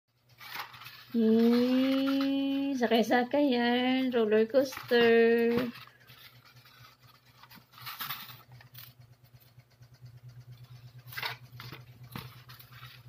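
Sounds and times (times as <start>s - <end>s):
low steady hum: 0.1s - 13.0s.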